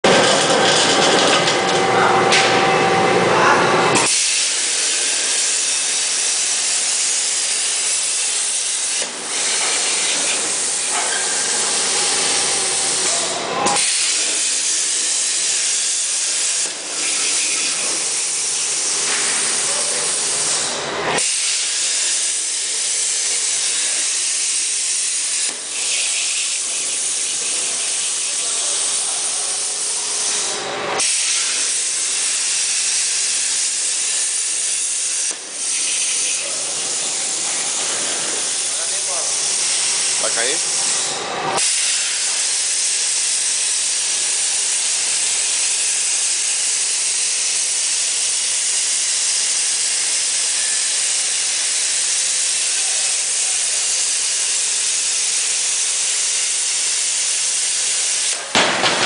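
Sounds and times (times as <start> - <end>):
plasma torch cutting steel: 0.1 - 3.0, 3.9 - 59.0.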